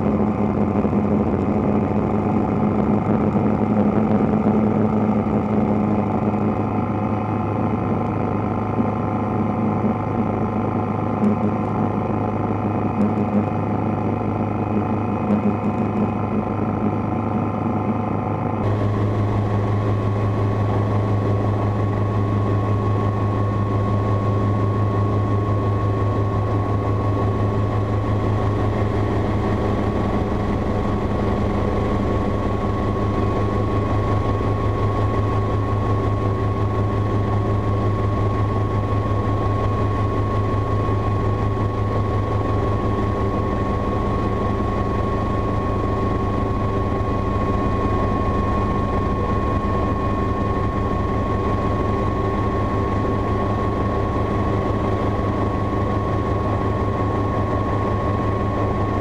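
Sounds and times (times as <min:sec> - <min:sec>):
helicopter engine and rotor drone: 0:00.0 - 0:59.0
thin steady whine: 0:00.0 - 0:59.0.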